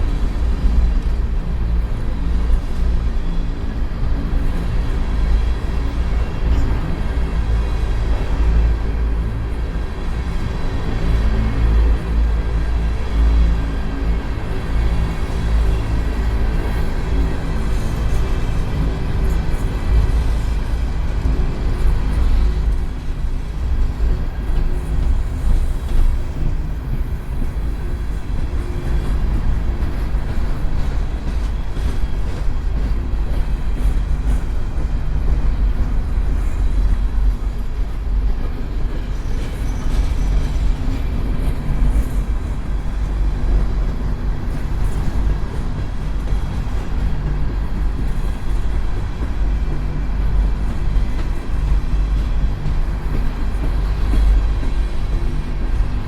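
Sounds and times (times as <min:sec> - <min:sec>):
freight train wheels on rail: 0:00.0 - 0:56.0.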